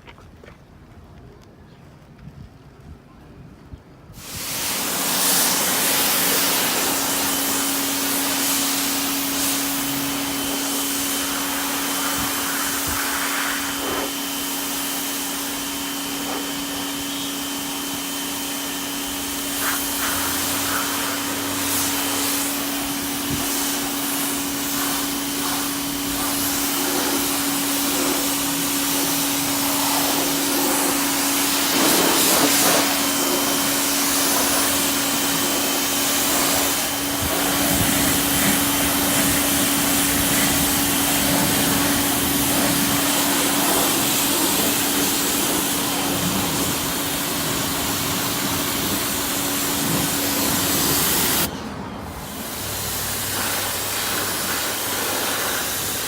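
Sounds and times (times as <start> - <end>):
loud spraying hiss: 4.2 - 51.6, 52.2 - 56.0
electric motor humming: 4.7 - 51.5.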